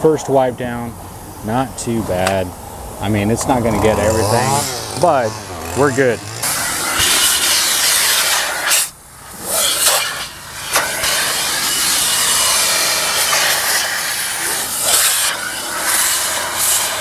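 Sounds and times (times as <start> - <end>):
vacuum hose sucking air: 3.2 - 17.0.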